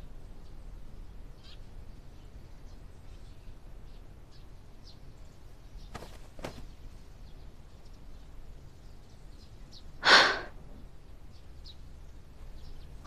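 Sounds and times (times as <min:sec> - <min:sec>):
faint bird chirps: 0:00.0 - 0:13.0
low steady hum: 0:00.0 - 0:13.0.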